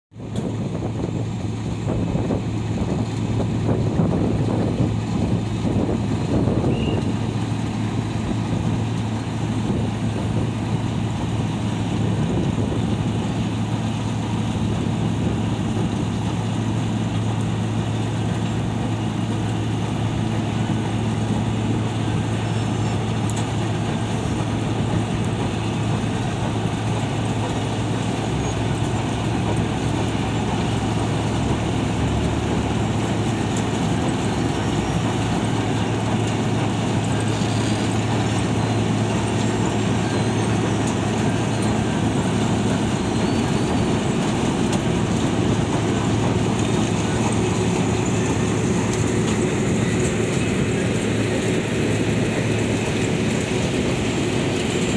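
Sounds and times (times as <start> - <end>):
heavy diesel engine drone: 0.1 - 54.9
milling drum and conveyor: 0.3 - 54.9.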